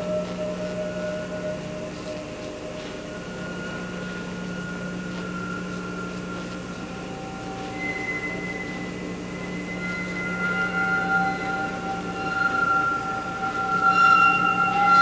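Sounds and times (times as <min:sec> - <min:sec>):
electronic drone music: 0:00.0 - 0:15.0.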